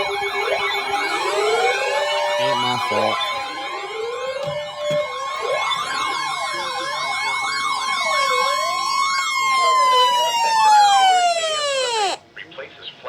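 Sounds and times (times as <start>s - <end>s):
siren wailing up and down: 0.0s - 12.2s
steady siren tone: 0.0s - 12.2s.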